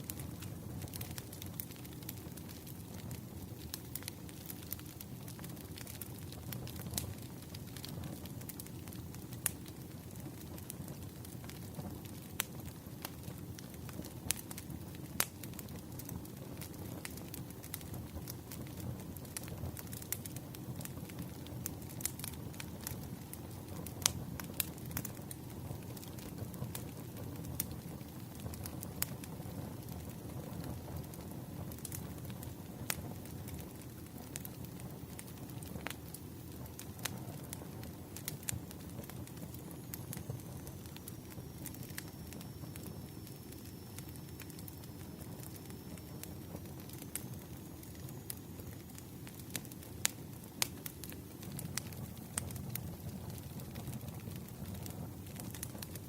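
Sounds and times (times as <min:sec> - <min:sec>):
low fire rumble: 0:00.0 - 0:56.0
wood fire crackling: 0:00.0 - 0:56.0.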